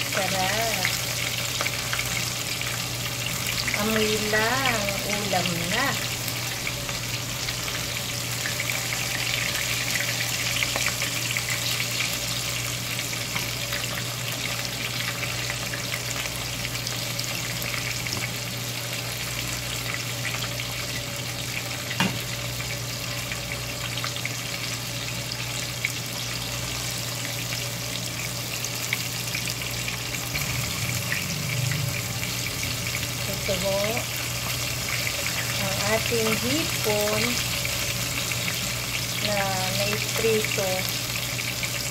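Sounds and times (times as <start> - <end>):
shrimp deep-frying in hot oil: 0.0 - 41.9.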